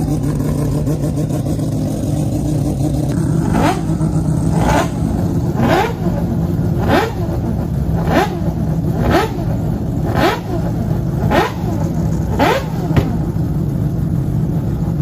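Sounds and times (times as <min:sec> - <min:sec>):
rotary racing engine revving: 0:00.0 - 0:13.7.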